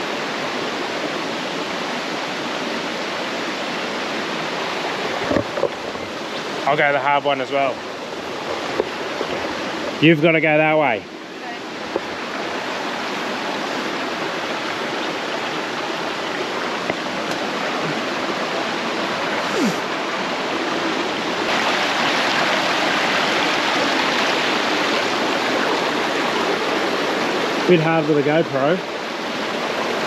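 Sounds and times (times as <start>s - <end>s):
creek rushing over rocks: 0.0s - 30.0s.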